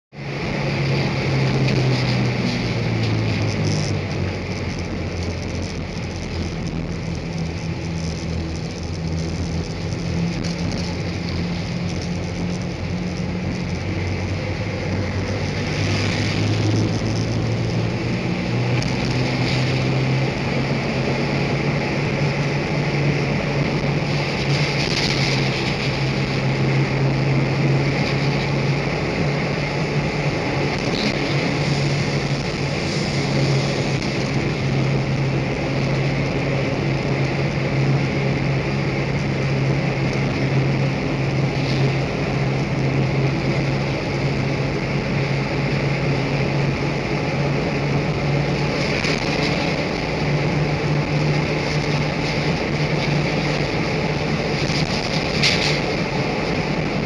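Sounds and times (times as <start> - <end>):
road noise: 0.0 - 57.0
tyres humming on steel grid bridge: 0.2 - 57.0.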